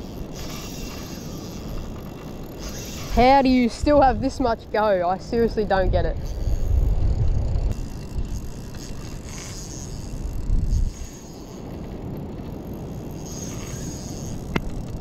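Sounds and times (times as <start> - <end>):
fishing reel drag slipping: 0.0 - 15.0
wind buffeting microphone: 0.0 - 15.0.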